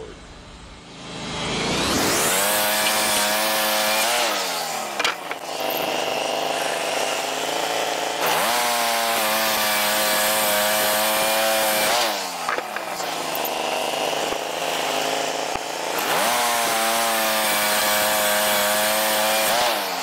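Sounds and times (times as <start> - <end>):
sawmill engine running: 0.9 - 20.0.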